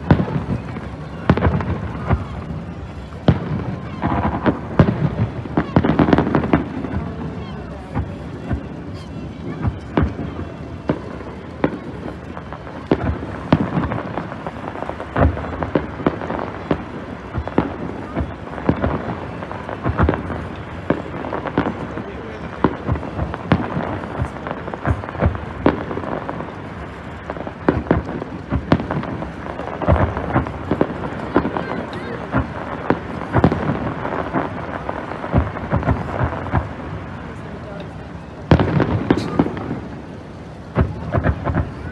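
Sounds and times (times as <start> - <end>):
fireworks bangs and booms: 0.0 - 41.9
fireworks crackling: 0.0 - 41.9.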